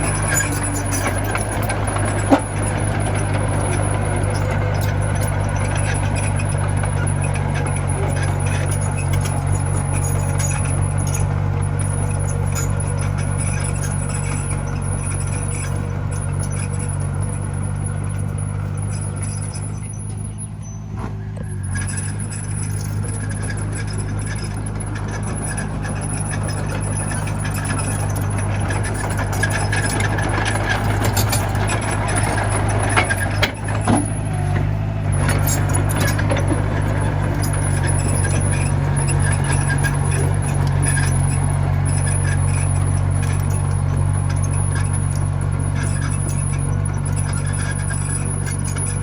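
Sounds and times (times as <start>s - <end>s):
metallic knocks and rattles: 0.0s - 20.7s, 21.5s - 49.0s
bulldozer diesel engine running: 0.0s - 49.0s.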